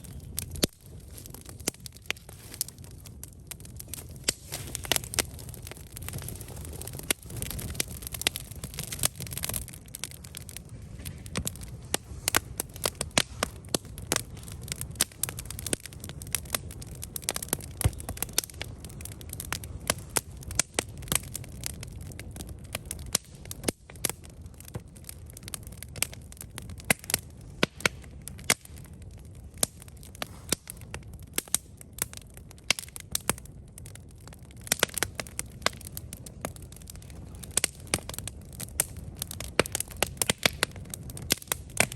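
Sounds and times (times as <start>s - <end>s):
campfire crackling and popping: 0.0s - 41.9s
low rumble of flames: 0.0s - 41.9s.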